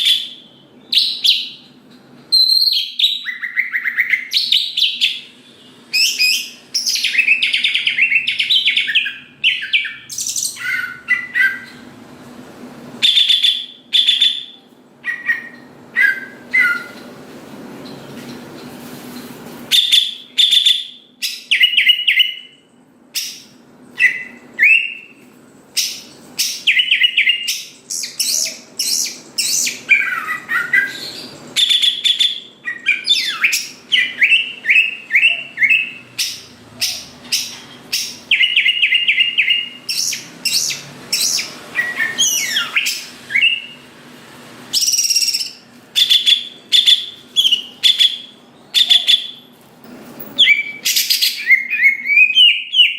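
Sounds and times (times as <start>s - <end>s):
bird chirping and whistling: 0.0s - 1.7s, 2.3s - 11.9s, 13.0s - 17.0s, 19.7s - 25.2s, 25.8s - 43.9s, 44.7s - 49.5s, 50.4s - 52.9s.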